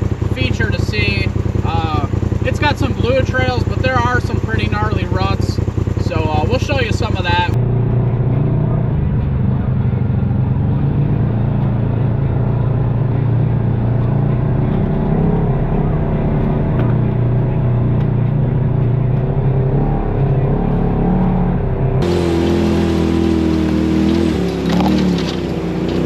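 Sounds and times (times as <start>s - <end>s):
utility vehicle engine running: 0.0s - 26.0s.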